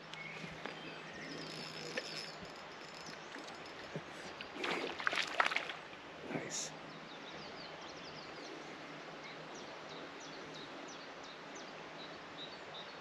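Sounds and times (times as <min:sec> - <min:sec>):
songbirds chirping: 0:00.0 - 0:13.0
steady outdoor hiss: 0:00.0 - 0:13.0.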